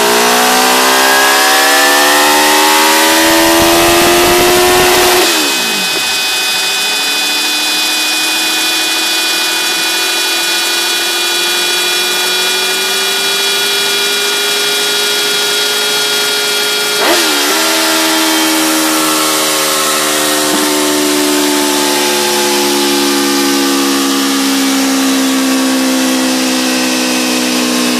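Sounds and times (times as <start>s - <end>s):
motorcycle engine revs falling: 0.0s - 27.9s
whining drone of engine and roller: 0.0s - 27.9s.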